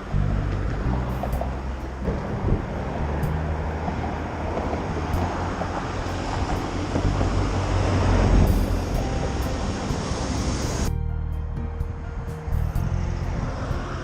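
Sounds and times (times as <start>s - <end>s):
strong wind buffeting microphone: 0.0s - 11.0s, 11.6s - 14.0s.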